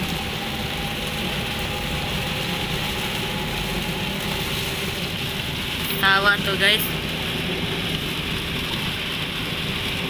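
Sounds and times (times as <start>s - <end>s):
heavy rain falling: 0.0s - 10.0s
road noise: 0.0s - 10.0s
vehicle engine rumble: 0.0s - 10.0s.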